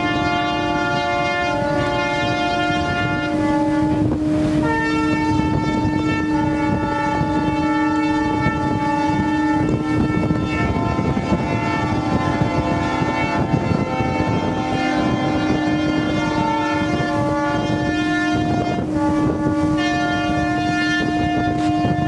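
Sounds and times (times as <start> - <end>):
rushing engines and wash: 0.0 - 22.0
ships' horns sounding together: 0.0 - 22.0.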